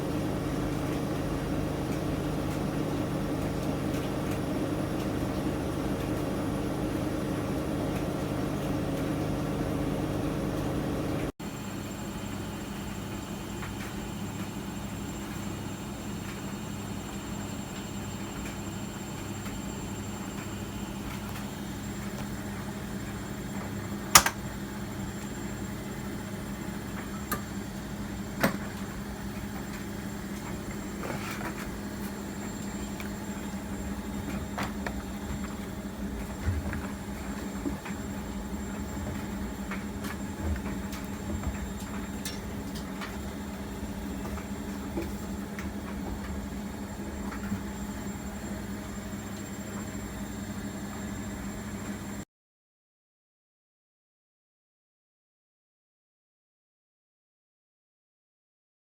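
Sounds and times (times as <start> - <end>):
washing machine humming: 0.0 - 52.2.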